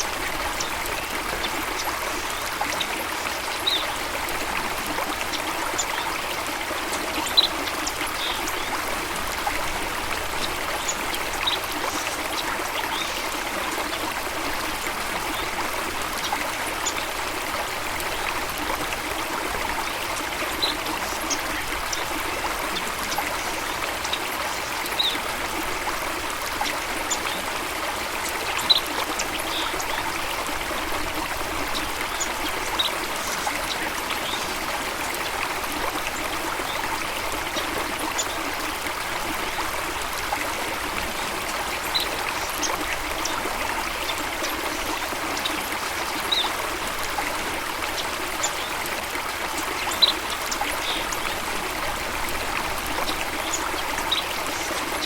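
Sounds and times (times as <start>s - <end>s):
rushing flowing water: 0.0s - 55.0s.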